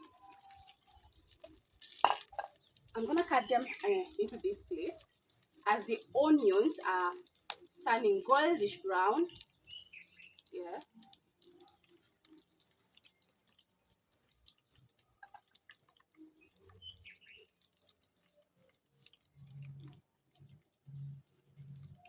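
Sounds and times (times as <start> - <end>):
onions frying in oil: 0.0 - 22.0.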